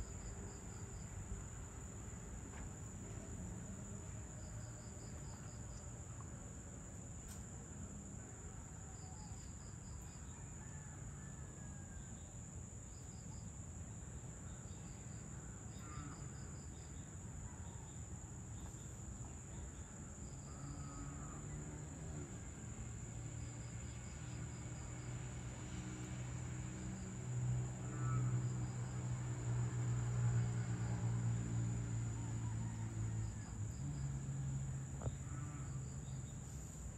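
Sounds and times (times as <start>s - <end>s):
high-pitched cricket drone: 0.0s - 36.9s.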